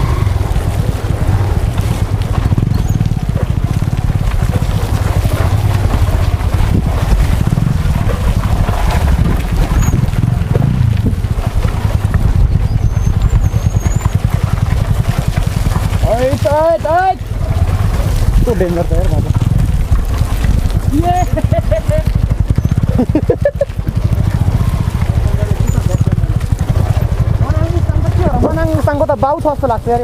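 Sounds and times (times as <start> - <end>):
motorcycle engine running: 0.0 - 30.0
wind rumble on microphone: 0.0 - 30.0.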